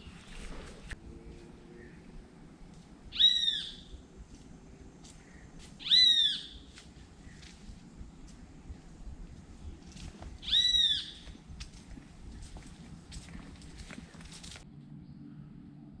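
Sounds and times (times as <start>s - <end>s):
bird calling: 0.0s - 14.6s.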